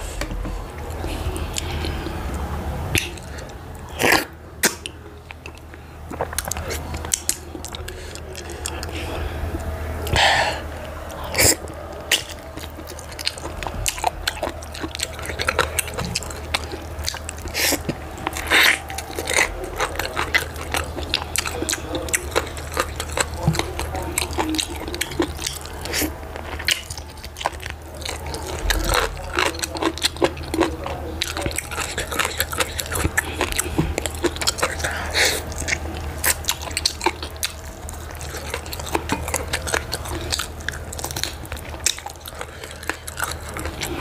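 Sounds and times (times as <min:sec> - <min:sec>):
chewing and wet mouth smacking: 0:00.0 - 0:44.0.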